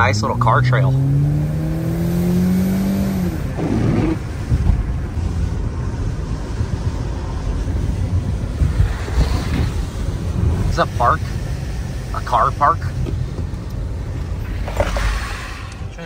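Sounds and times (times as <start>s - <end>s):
car engine revving: 0.0s - 16.0s
wind: 0.0s - 16.0s
tyres on wet pavement: 2.6s - 16.0s.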